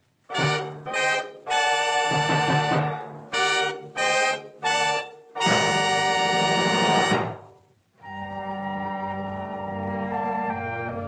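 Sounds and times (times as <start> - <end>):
orchestral brass and woodwind chords: 0.2 - 11.0.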